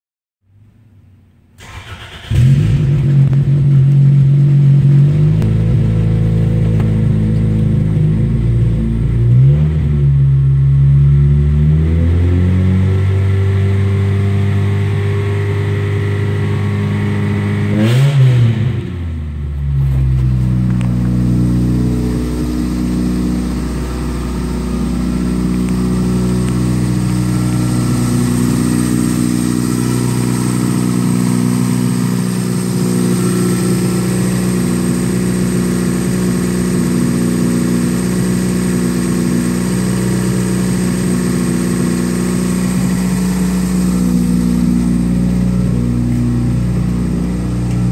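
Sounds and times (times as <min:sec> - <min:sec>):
car engine revving and idling: 0:01.6 - 0:47.9.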